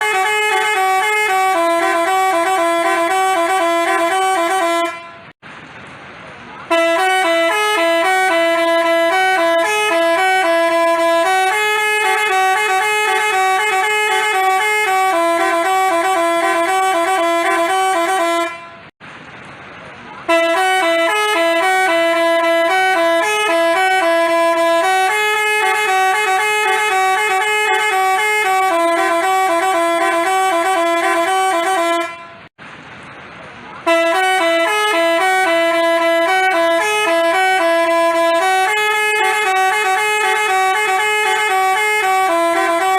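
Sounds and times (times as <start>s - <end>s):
multi-tone bus horn melody: 0.0s - 5.4s, 6.6s - 19.0s, 20.2s - 32.5s, 33.8s - 42.9s.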